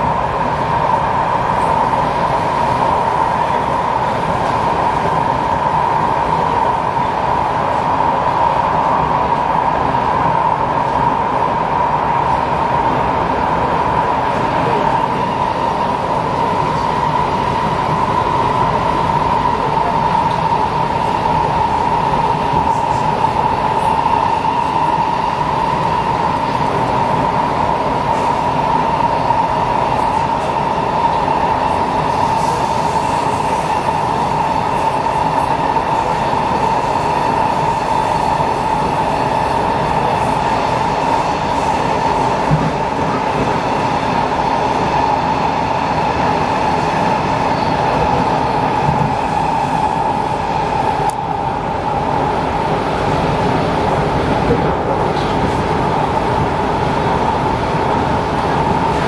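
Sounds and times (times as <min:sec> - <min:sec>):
train car running noise: 0:00.0 - 0:59.0.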